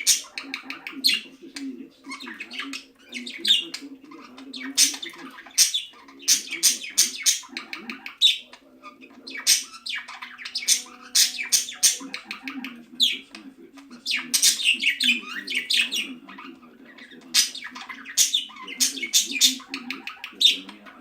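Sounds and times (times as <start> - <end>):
budgerigars chirping and chattering: 0.0 - 21.0.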